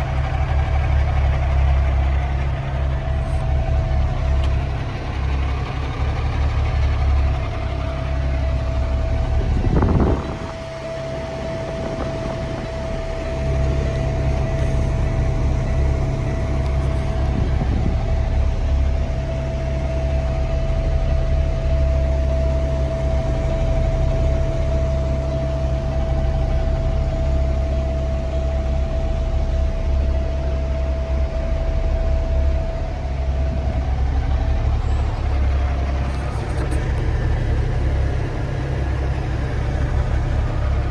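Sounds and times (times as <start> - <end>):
steady engine whine: 0.0 - 40.9
truck engine idling: 0.0 - 40.9.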